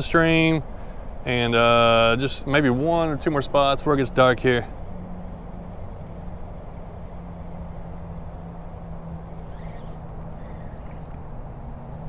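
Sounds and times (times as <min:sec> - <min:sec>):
low steady hum: 0:00.0 - 0:12.0
thin high steady tone: 0:00.0 - 0:12.0.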